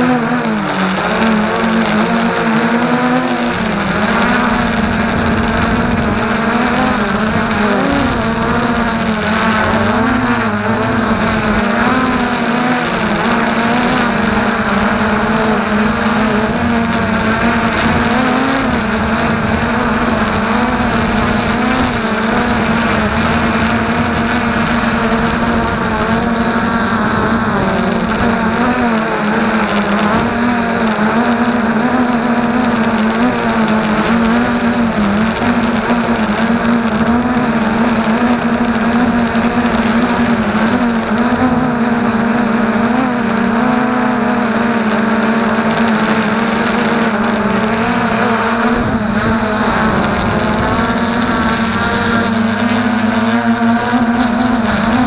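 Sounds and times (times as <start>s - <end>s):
quadcopter propellers buzzing: 0.0s - 55.0s.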